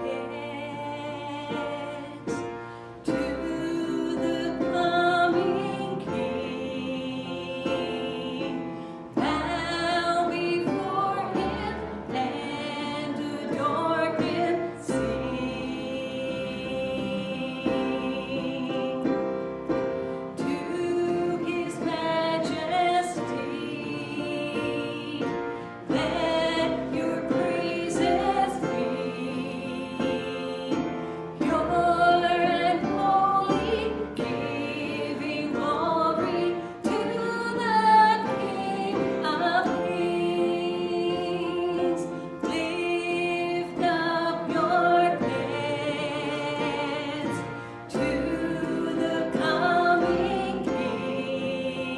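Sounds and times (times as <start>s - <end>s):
musical accompaniment: 0.0s - 51.9s.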